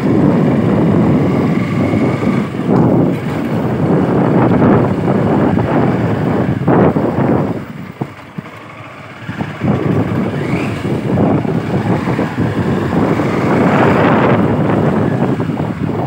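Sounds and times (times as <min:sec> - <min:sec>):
motorbike engine: 0:00.0 - 0:16.0
wind rushing over microphone: 0:00.0 - 0:16.0.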